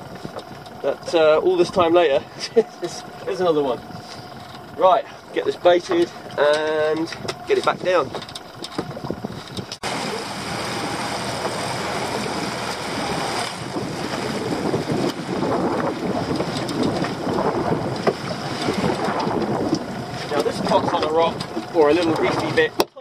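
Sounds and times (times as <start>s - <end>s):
wind buffeting microphone: 0.0s - 22.9s
waves slapping against boat: 0.0s - 23.0s.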